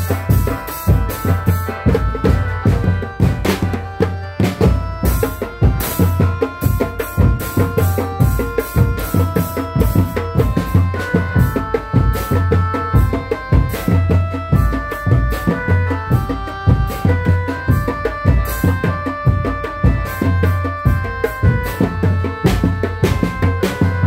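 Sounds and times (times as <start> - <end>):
deep repeating beat: 0.0 - 24.0
hand drums busy rhythm: 0.0 - 24.0
melody of held notes: 0.0 - 24.0.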